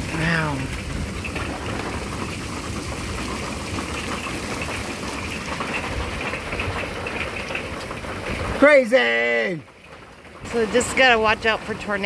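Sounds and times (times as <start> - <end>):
rain and hail on a roof: 0.0 - 12.0.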